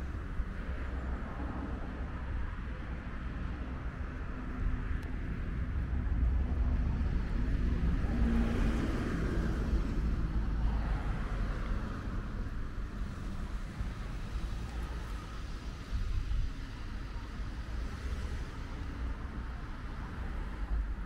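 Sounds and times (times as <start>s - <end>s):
low outdoor rumble: 0.0s - 21.0s
car passing on road: 4.0s - 21.0s.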